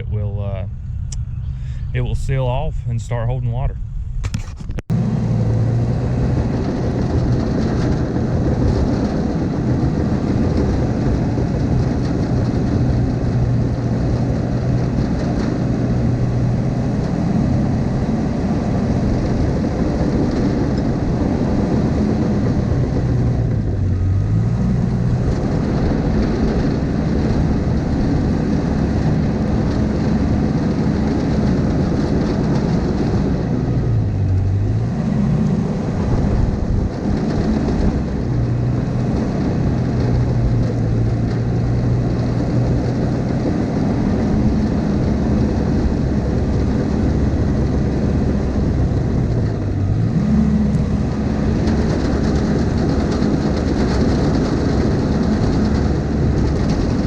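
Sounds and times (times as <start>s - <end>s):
earthmover diesel engine running: 0.0s - 57.0s.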